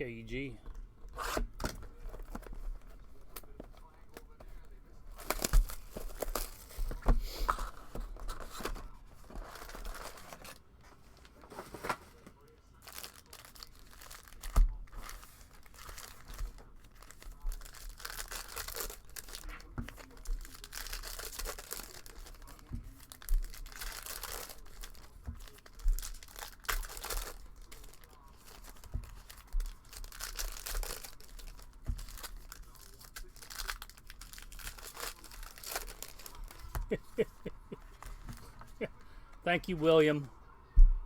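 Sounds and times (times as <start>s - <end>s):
foil wrappers tearing and crinkling: 1.1s - 10.6s, 11.2s - 38.9s.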